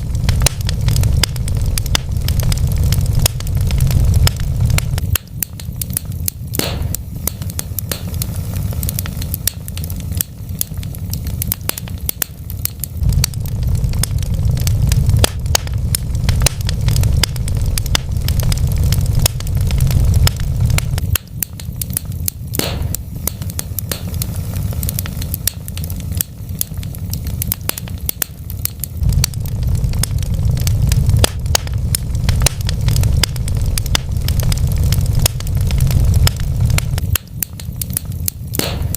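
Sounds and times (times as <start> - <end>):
steady low rumble: 0.0 - 38.9
wood fire crackling and popping: 0.0 - 38.9.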